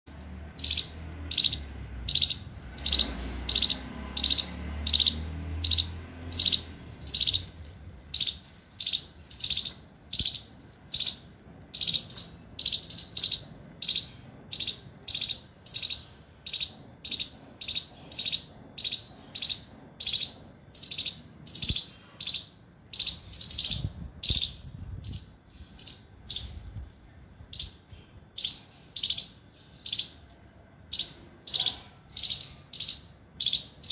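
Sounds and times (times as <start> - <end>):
squirrel chip calls: 0.4 - 26.6, 27.5 - 30.2, 30.9 - 33.9.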